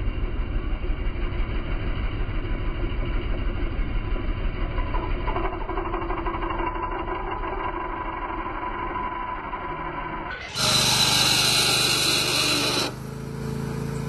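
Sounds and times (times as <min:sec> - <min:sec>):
lawn tractor engine running: 0:00.0 - 0:09.6, 0:10.3 - 0:14.0
steady whine: 0:00.0 - 0:13.1.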